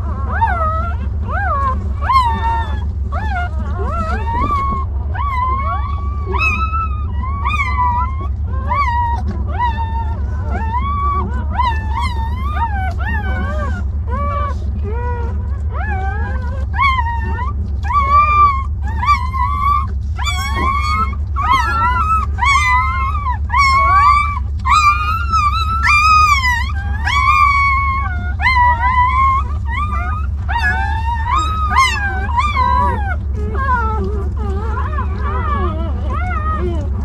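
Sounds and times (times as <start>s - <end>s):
puppies whining and crying: 0.0s - 37.0s
steady low hum: 0.0s - 37.0s.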